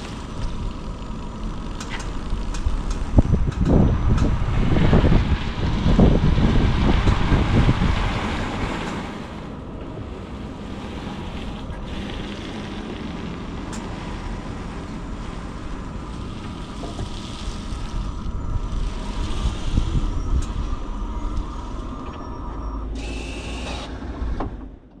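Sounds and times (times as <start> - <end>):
car road and wind noise: 0.0 - 23.2.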